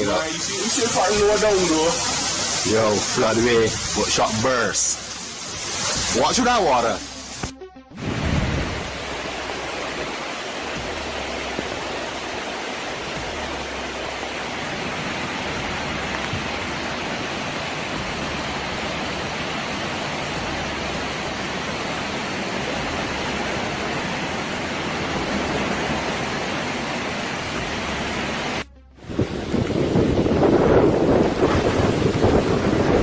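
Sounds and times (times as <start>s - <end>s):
floodwater rushing: 0.0s - 33.0s.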